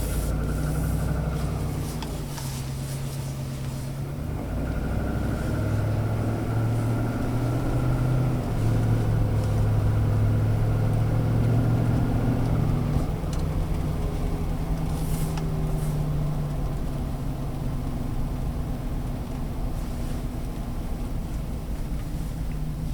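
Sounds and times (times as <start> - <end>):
engine running with a knock: 0.0 - 22.9.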